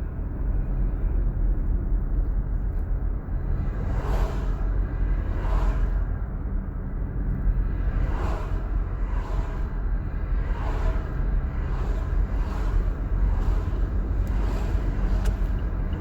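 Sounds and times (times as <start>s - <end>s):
road and wind rumble: 0.0s - 16.0s.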